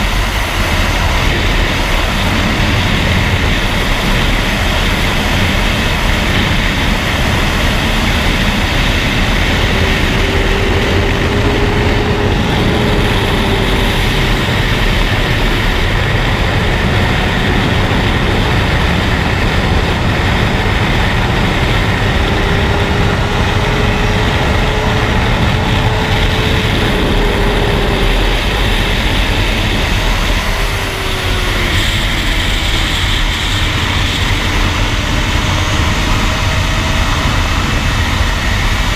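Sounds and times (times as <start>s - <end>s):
faint motorcycle engine: 0.0s - 38.9s.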